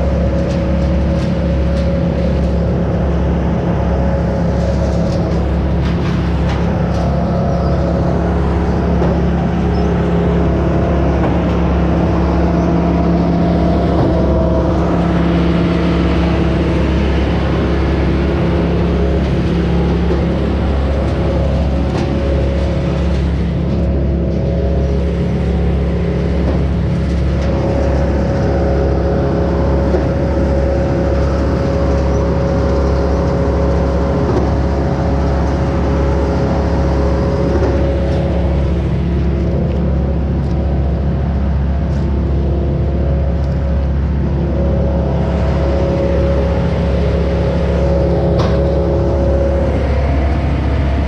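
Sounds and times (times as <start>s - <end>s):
deep rumble: 0.0s - 51.0s
engine running steadily: 0.0s - 51.0s.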